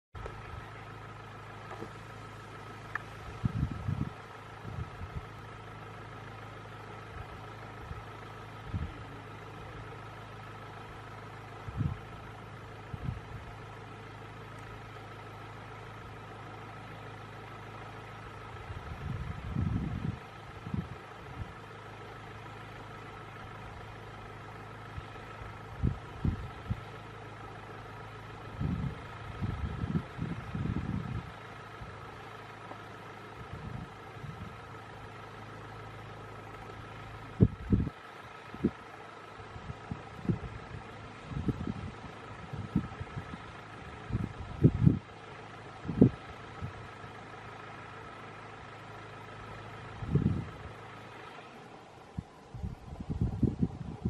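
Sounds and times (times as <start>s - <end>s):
vehicle engine idling: 0.2s - 54.0s.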